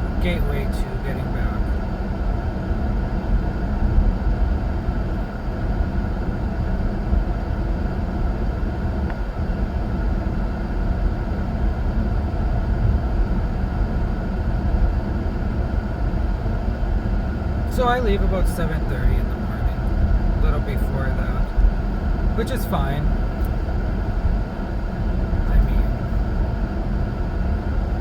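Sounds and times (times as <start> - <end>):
car cabin road and engine rumble: 0.0 - 28.0.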